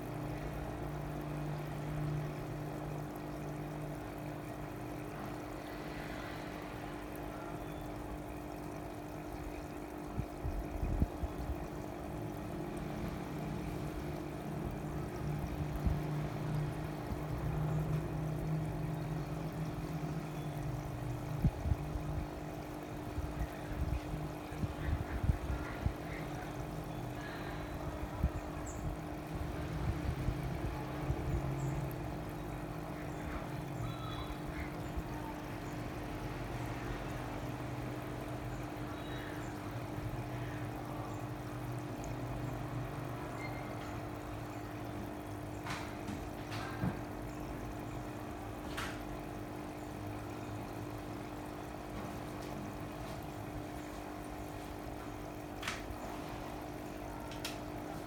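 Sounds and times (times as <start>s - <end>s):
pump hum: 0.0s - 58.0s
water trickling and splashing: 0.0s - 58.0s.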